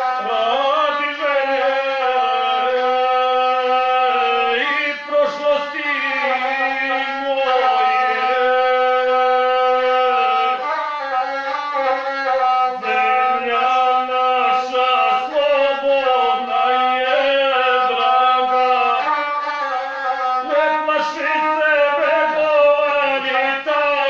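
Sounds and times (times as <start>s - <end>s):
bowed single-string fiddle: 0.0s - 24.0s
person singing long held notes: 0.0s - 24.0s.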